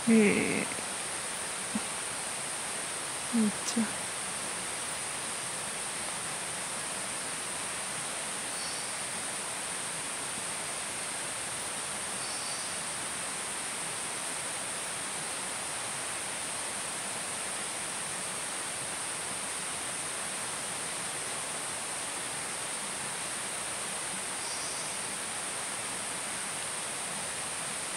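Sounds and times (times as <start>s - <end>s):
background hiss: 0.0s - 27.9s.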